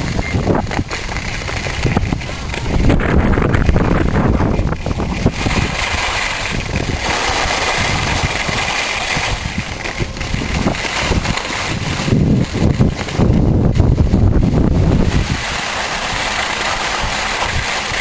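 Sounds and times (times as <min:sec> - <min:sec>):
skis scraping over snow: 0:00.0 - 0:18.0
wind rumbling on microphone: 0:00.0 - 0:18.0.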